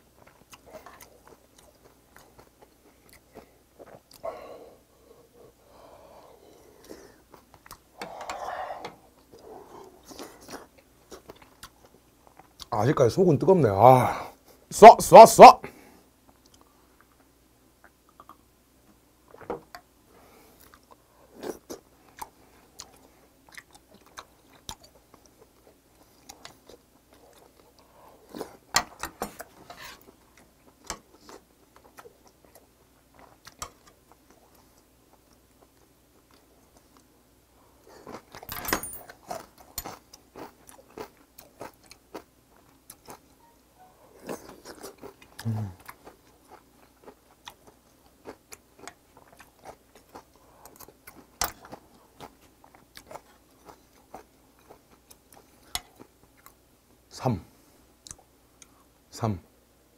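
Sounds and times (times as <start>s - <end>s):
person chewing food: 0.1s - 12.7s, 16.3s - 18.5s, 20.3s - 56.6s.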